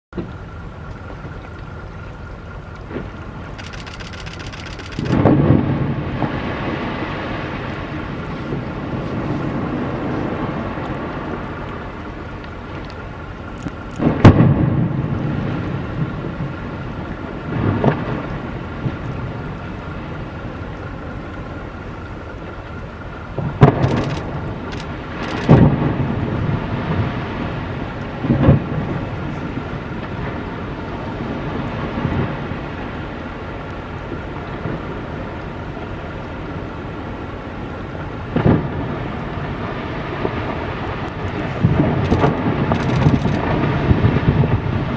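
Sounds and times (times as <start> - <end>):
wind: 0.1 - 44.9.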